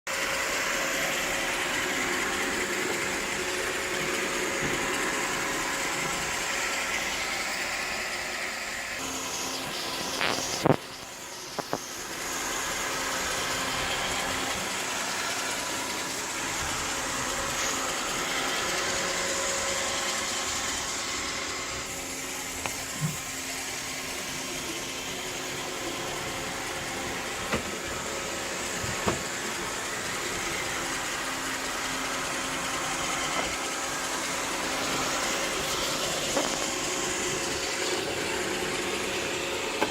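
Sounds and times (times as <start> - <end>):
robot vacuum running: 0.1 - 39.9.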